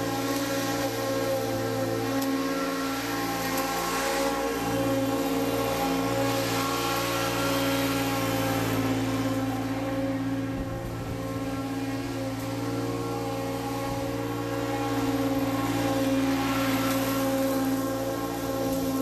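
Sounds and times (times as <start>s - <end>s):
mower engine passing: 0.0s - 19.0s.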